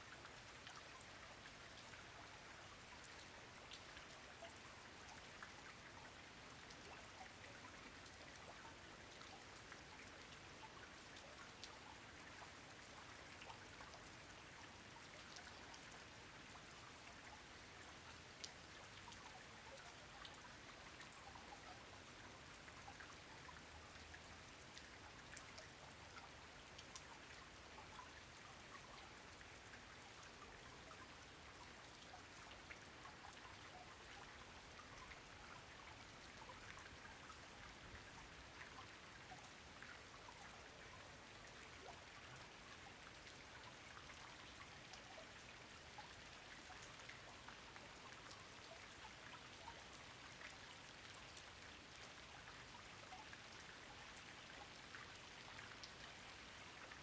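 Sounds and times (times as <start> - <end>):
soft rain hissing: 0.0 - 57.0.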